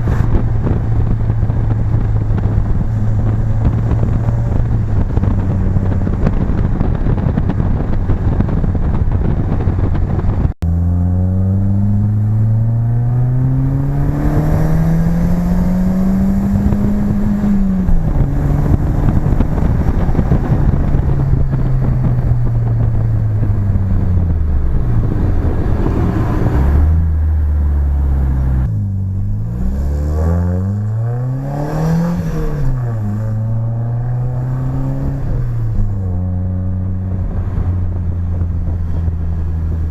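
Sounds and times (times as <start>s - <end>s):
car engine revving: 0.0s - 39.9s
wind noise: 0.0s - 39.9s.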